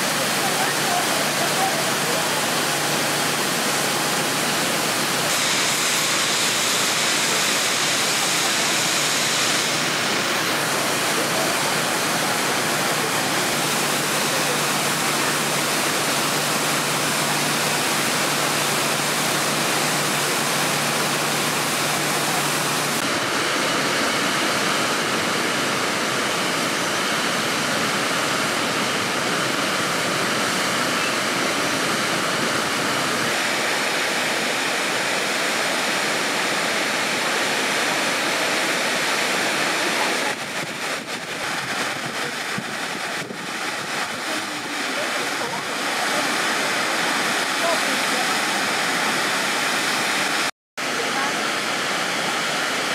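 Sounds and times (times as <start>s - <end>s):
large waterfall rushing: 0.0s - 52.9s
waterfall cascading over rocks: 0.0s - 52.9s.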